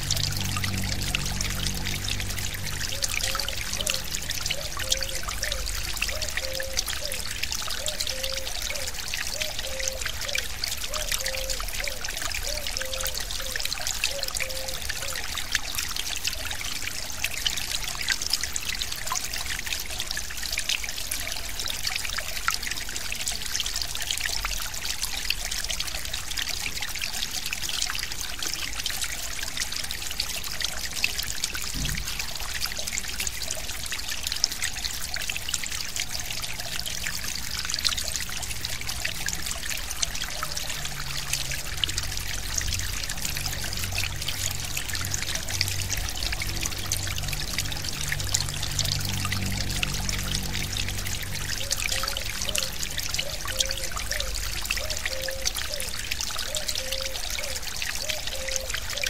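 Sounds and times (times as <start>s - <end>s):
stream flowing and trickling: 0.0s - 59.0s.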